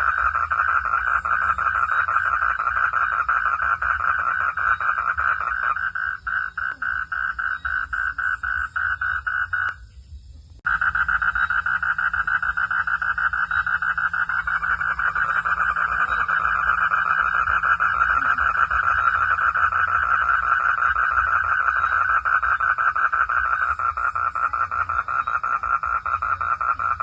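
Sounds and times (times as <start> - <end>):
frogs trilling: 0.0 - 10.0, 10.6 - 27.0.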